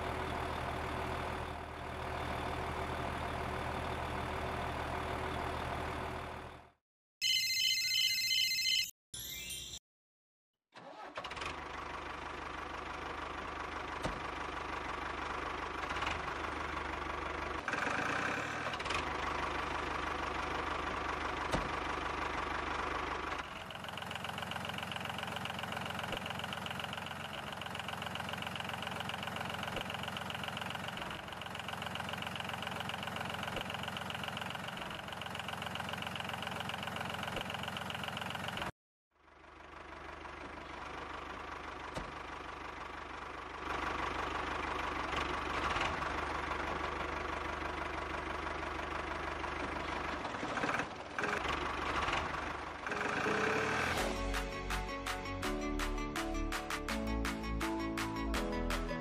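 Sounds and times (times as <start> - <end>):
tractor engine idling with knocking: 0.0 - 6.7, 10.8 - 38.7, 39.5 - 56.0.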